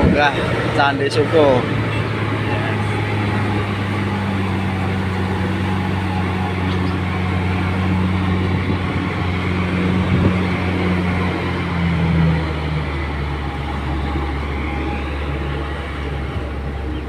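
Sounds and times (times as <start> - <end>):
vehicle engine running under load: 0.0 - 17.0.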